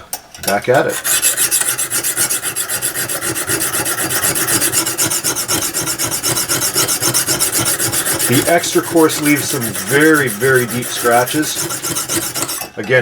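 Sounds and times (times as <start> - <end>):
sharpening stone scraping metal: 0.9 - 12.7.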